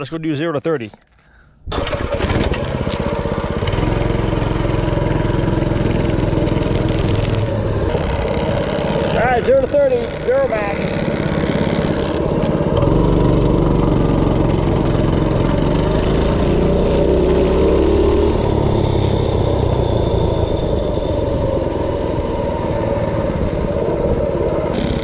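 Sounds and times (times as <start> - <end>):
minibike engine at full throttle: 1.7 - 25.0.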